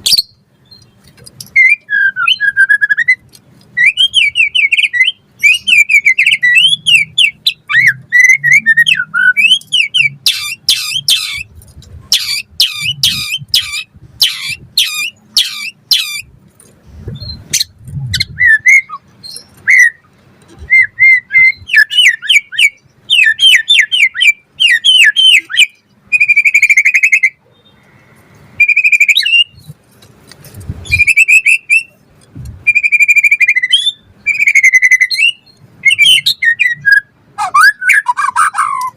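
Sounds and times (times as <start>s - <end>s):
bird singing varied song: 0.0s - 16.3s, 17.1s - 29.8s, 30.8s - 38.9s.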